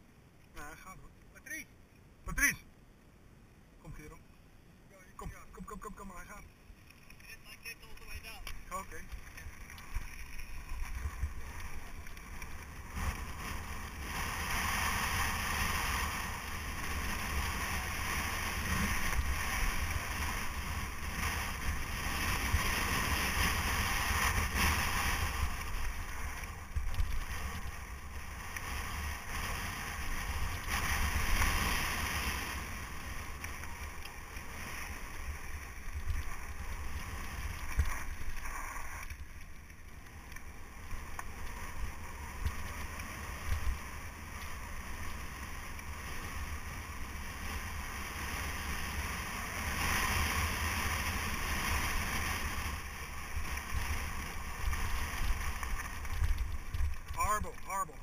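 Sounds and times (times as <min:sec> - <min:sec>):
bike tyres rolling over gravel: 0:06.1 - 0:58.0.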